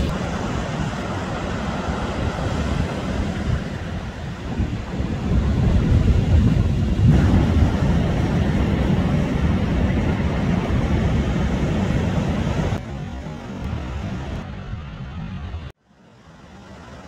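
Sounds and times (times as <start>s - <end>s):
wind buffeting microphone: 0.0s - 15.8s
waves breaking and surf rushing: 0.0s - 17.0s.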